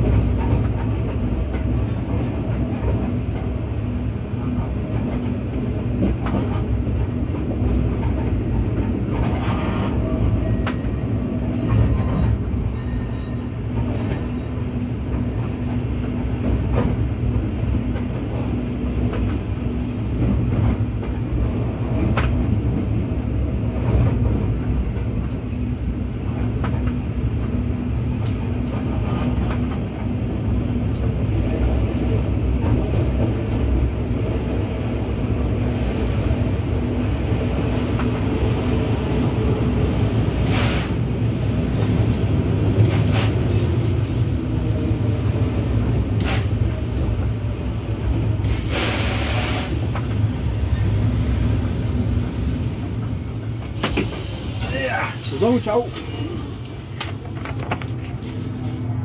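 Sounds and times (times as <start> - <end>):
train rumble and hum: 0.0 - 59.0.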